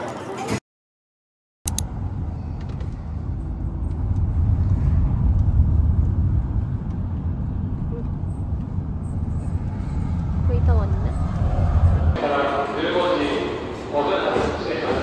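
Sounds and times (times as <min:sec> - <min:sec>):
moving vehicle rumble: 0:01.7 - 0:13.9.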